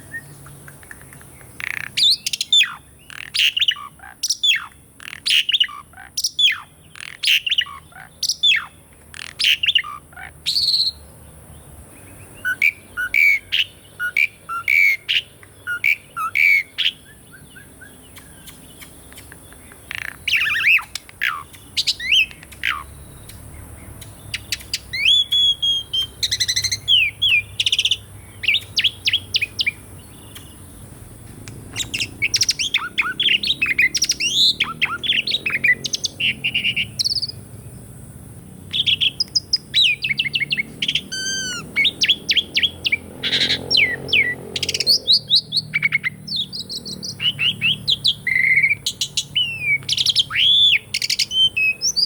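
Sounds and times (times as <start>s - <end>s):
starling singing whistles and chirps: 0.0s - 11.2s, 11.9s - 37.5s, 38.7s - 52.0s.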